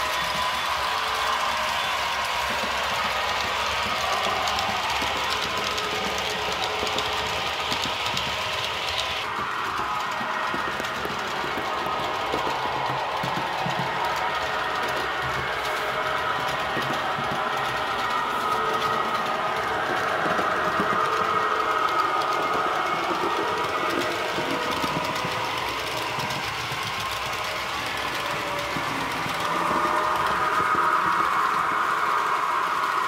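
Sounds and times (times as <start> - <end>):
model train motor whine: 0.0 - 33.0
wheels rolling on rails: 0.0 - 33.0.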